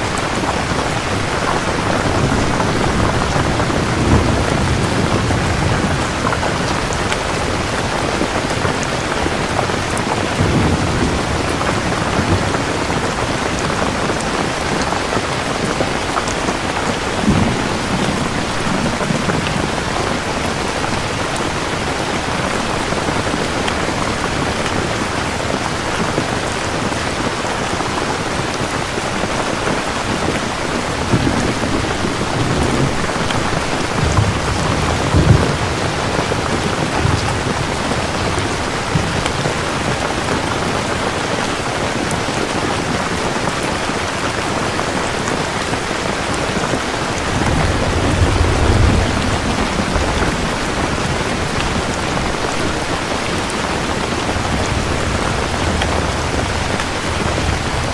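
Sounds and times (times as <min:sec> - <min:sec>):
heavy rain falling: 0:00.0 - 0:57.9
thunder rumbling: 0:00.0 - 0:57.9.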